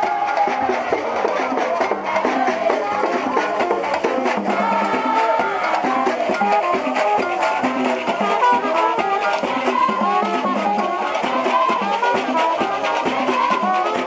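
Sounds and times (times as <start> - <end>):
drums and percussion: 0.0 - 14.0.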